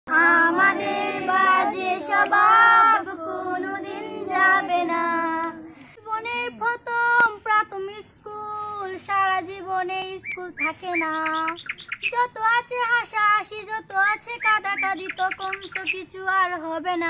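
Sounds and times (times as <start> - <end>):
girls singing unaccompanied: 0.1 - 17.0.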